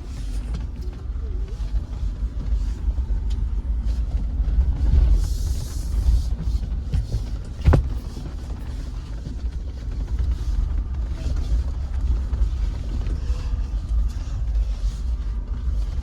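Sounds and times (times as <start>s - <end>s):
vehicle rumbling on rocky trail: 0.0s - 16.0s.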